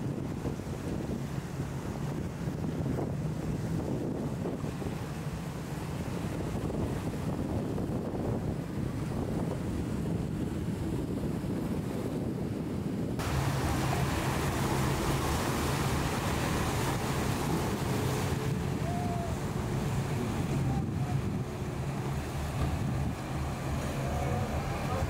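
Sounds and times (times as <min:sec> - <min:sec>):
boat engine hum: 0:00.0 - 0:25.0
water noise: 0:00.0 - 0:25.0
wind buffeting the microphone: 0:00.0 - 0:25.0.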